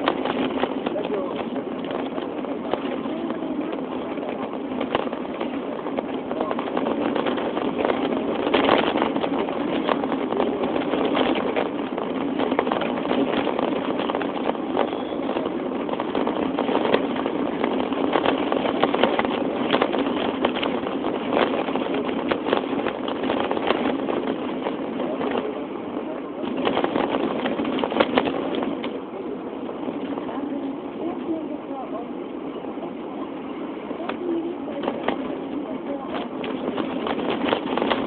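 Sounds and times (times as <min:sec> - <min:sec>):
vehicle engine noise: 0:00.0 - 0:38.0.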